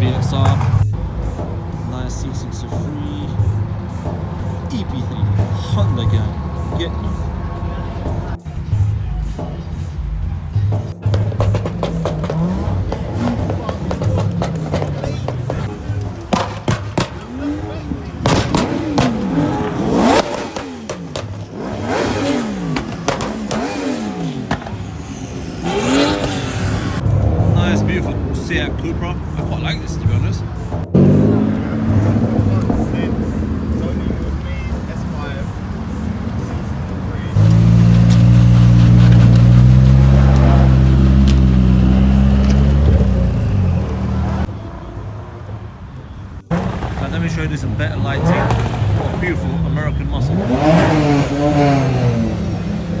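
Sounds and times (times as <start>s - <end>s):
car engine revving: 0.0s - 53.0s
sharp exhaust cracks: 0.0s - 53.0s.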